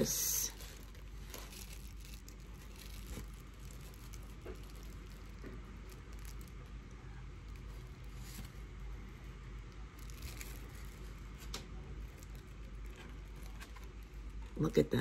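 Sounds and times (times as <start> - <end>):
plastic bag rustling: 0.0 - 14.7
steady low hum: 0.0 - 15.0.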